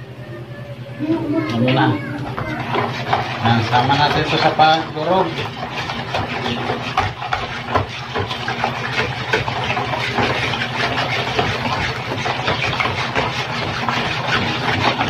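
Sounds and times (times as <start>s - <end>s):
low machine hum: 0.0s - 15.0s
whisk beating batter in bowl: 1.4s - 15.0s.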